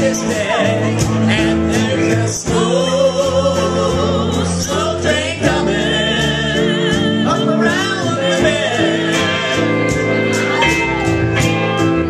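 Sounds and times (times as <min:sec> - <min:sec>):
person singing with vibrato: 0:00.0 - 0:11.0
guitar and bass chords: 0:00.0 - 0:12.0.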